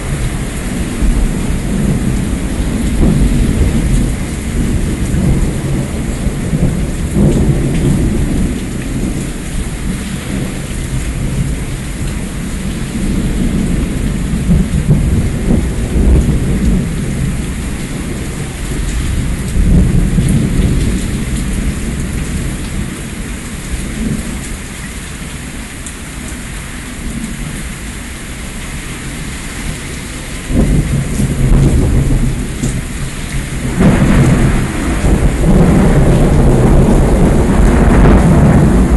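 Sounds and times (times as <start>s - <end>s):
thunder rumbling: 0.0s - 24.8s, 29.0s - 38.9s
steady rain falling: 0.0s - 38.9s.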